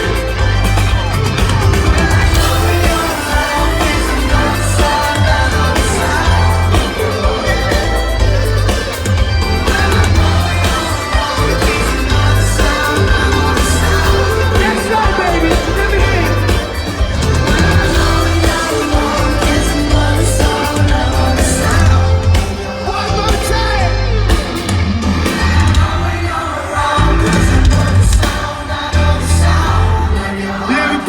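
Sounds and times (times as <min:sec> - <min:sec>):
heavy pulsing bass: 0:00.0 - 0:26.4, 0:27.0 - 0:28.4, 0:29.0 - 0:30.2
live pop rock band: 0:00.0 - 0:31.0
person singing: 0:00.0 - 0:31.0.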